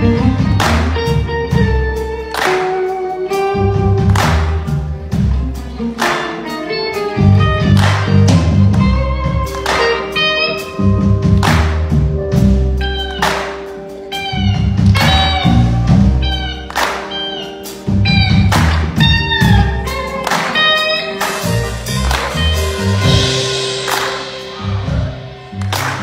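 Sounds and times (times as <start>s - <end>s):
bass guitar: 0.0s - 26.0s
drums: 0.0s - 26.0s
electric guitar lead: 0.0s - 26.0s.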